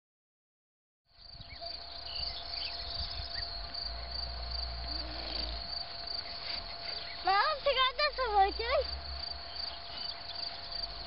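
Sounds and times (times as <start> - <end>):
crickets chirping: 1.1 - 11.0.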